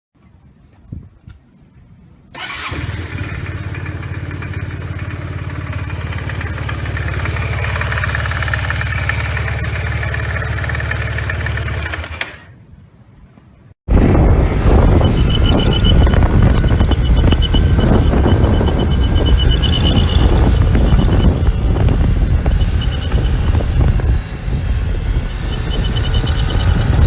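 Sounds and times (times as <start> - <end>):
scooter engine idling: 2.4 - 12.2, 14.9 - 27.0
high whine: 2.7 - 11.9, 13.9 - 27.0.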